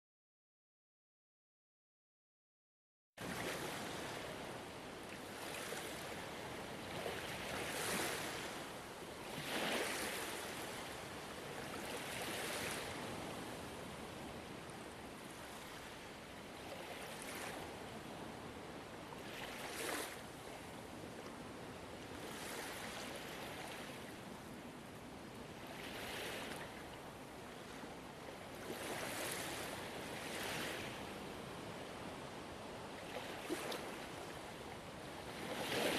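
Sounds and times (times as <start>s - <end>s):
ocean waves: 3.2s - 35.9s.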